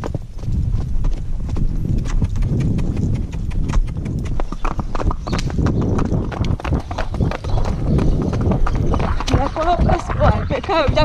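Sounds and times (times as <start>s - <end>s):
horse hoofbeats: 0.0s - 11.0s.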